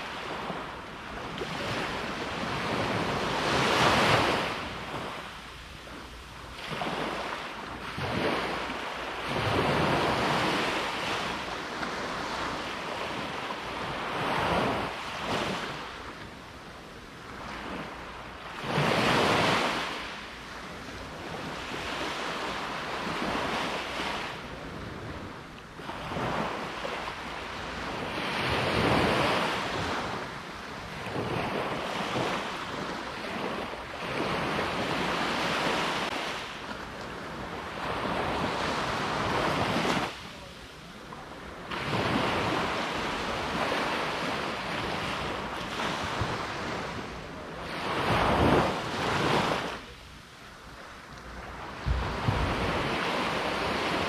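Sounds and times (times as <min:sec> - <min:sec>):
low wind rumble on microphone: 0:00.0 - 0:40.2, 0:40.9 - 0:54.0
sea waves breaking on shore: 0:00.0 - 0:54.0.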